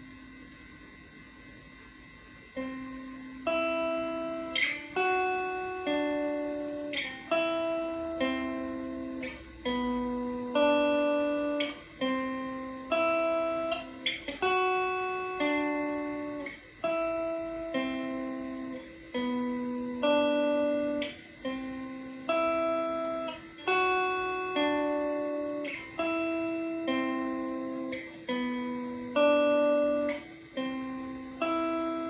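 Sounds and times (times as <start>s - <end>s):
clean electric guitar chords: 2.5s - 32.0s.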